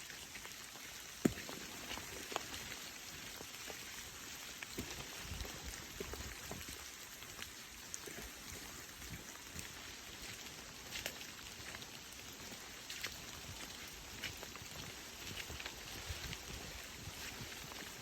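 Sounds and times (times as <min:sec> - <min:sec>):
raindrops ticking close by: 0:00.0 - 0:18.0
steady rain falling: 0:00.0 - 0:18.0.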